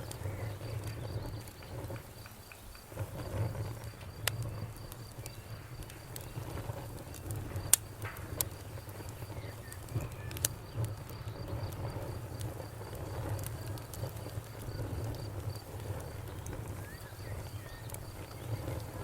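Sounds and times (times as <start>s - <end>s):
campfire crackling: 0.0s - 19.0s
faint cricket-like chirping: 0.0s - 19.0s
low rumble of fire: 0.0s - 19.0s.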